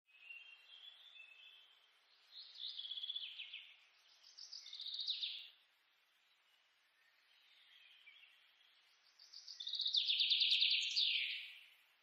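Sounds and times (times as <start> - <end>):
birds trilling song: 0.1 - 12.0
faint bird chirping: 0.1 - 12.0
soft hiss: 0.2 - 12.0.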